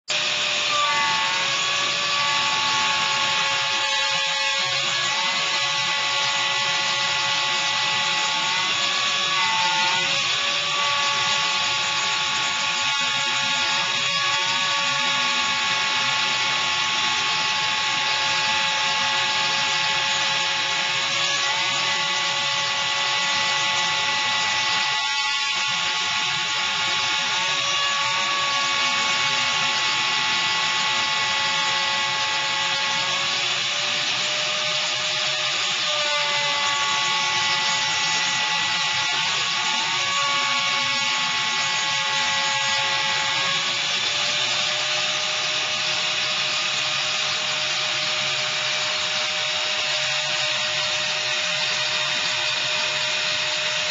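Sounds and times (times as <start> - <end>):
router bit cutting wood: 0.0 - 53.9
router spindle whining: 0.0 - 53.9.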